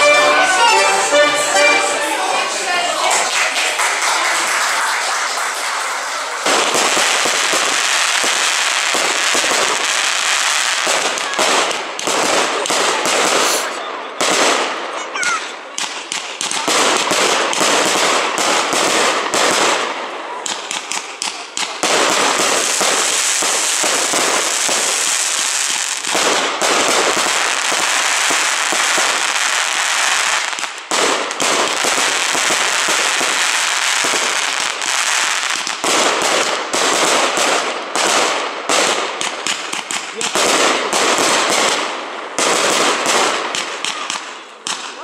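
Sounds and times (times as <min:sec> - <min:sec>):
fireworks bursting with bangs: 0:00.0 - 0:45.0.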